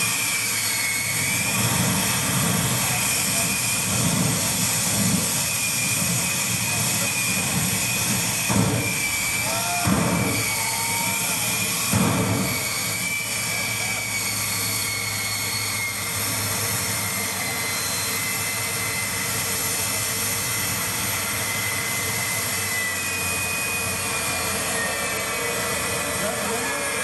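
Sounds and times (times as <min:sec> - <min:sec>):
jet engine running: 0:00.0 - 0:27.0.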